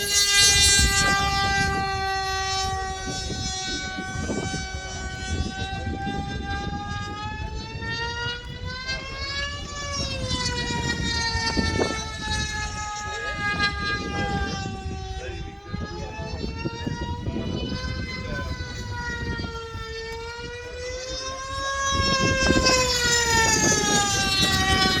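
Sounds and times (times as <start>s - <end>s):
model airplane motor whining: 0.0s - 25.0s.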